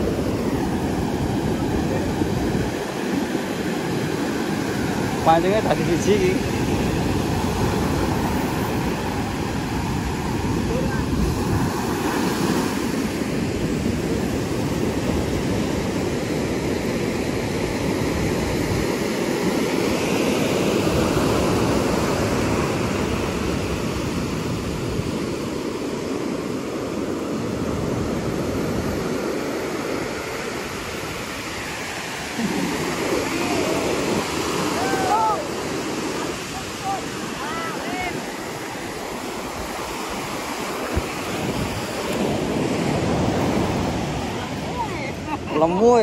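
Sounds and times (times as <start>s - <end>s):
ocean waves breaking on beach: 0.0s - 46.0s.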